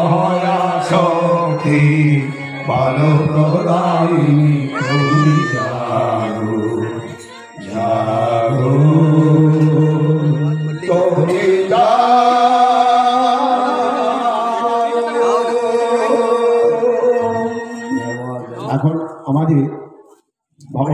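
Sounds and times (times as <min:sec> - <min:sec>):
men chanting into microphones: 0:00.0 - 0:17.7.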